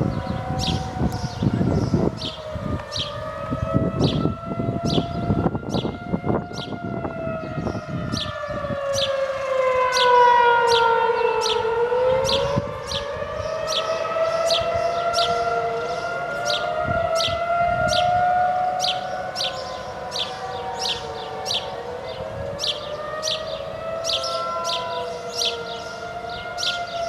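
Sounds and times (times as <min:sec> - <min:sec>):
air-raid siren wailing: 0:00.0 - 0:27.0.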